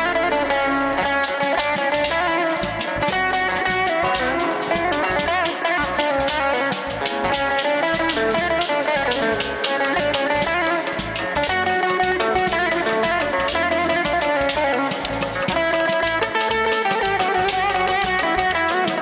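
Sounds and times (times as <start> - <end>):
drum beat with sticks: 0.0 - 19.0
electric guitar melody: 0.0 - 19.0.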